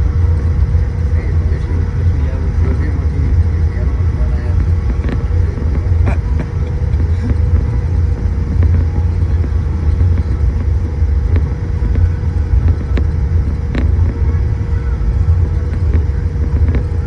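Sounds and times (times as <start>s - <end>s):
constant hum: 0.0s - 17.0s
low cabin rumble: 0.0s - 17.0s.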